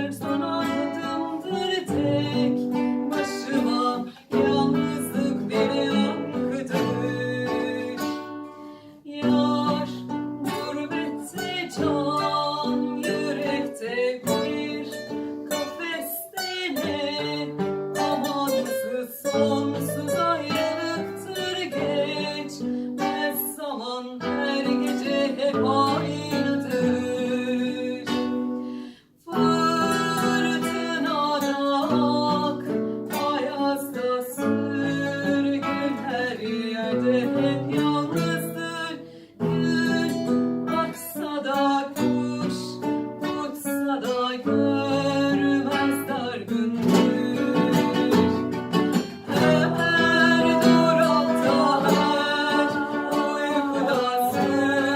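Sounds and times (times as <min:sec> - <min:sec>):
acoustic guitar strummed and picked: 0:00.0 - 0:54.9.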